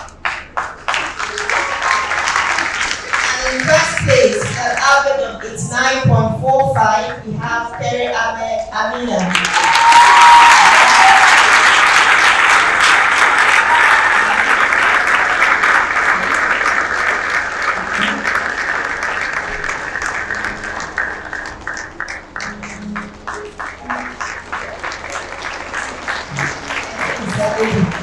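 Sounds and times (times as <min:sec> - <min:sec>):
audience applauding: 0:00.0 - 0:05.0, 0:09.2 - 0:28.0.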